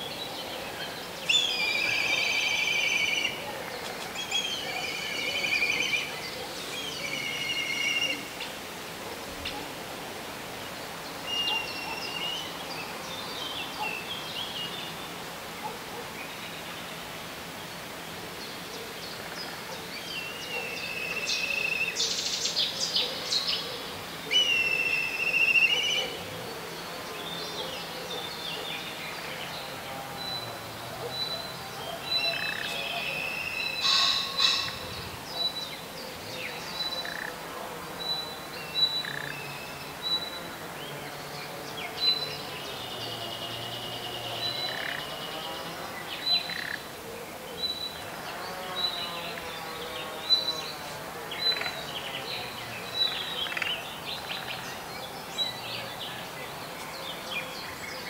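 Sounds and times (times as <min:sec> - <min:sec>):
birds singing and calling: 0:00.0 - 0:08.6, 0:10.6 - 0:17.1, 0:17.7 - 0:37.4, 0:38.0 - 0:58.0.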